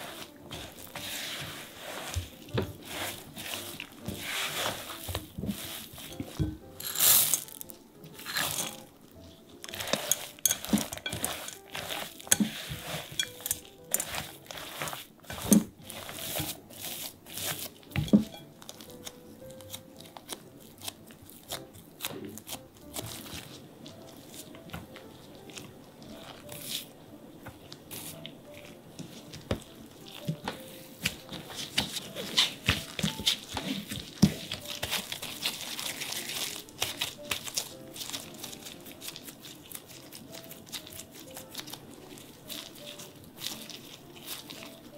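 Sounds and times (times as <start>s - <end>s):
faint background music: 0.0s - 44.9s
plastic gloves crinkling: 0.0s - 44.9s.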